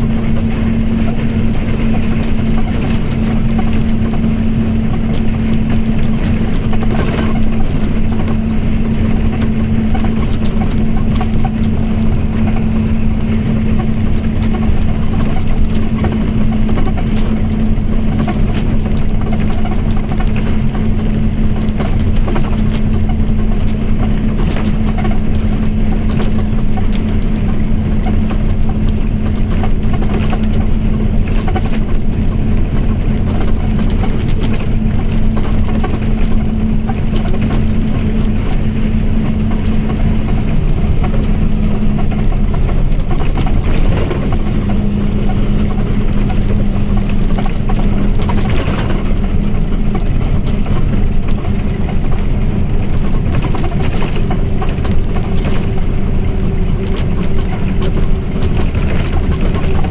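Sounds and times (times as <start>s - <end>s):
bus engine: 0.0s - 59.9s
road noise: 0.0s - 59.9s.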